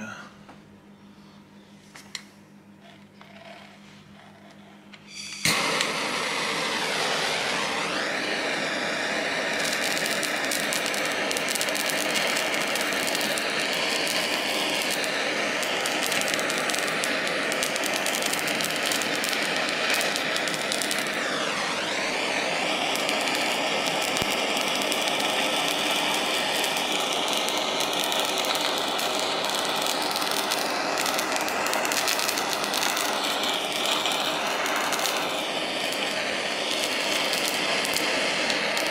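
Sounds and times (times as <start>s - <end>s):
gas torch roaring: 2.0s - 38.9s.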